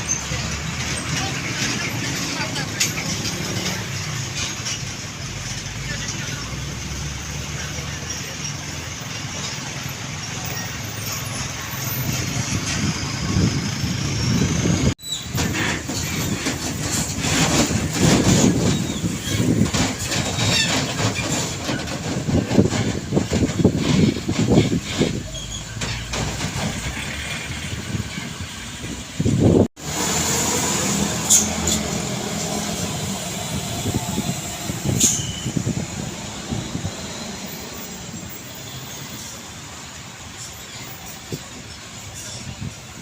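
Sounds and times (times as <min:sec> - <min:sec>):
heavy trucks and traffic passing: 0:00.0 - 0:43.0.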